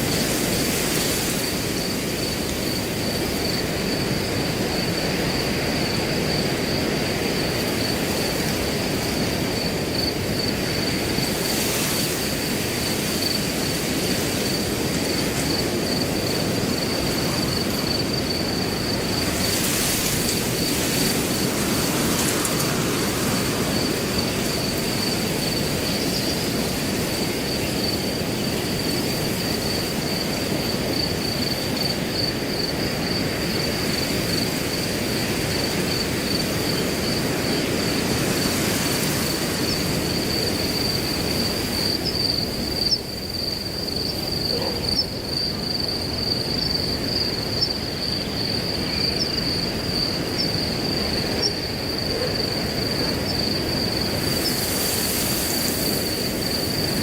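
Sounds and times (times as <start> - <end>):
cricket trilling: 0.0 - 57.0
wind rushing through grass: 0.0 - 57.0.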